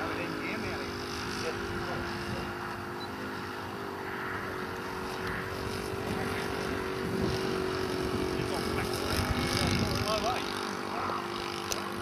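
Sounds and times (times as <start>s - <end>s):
model aeroplane engine droning: 0.0s - 12.0s.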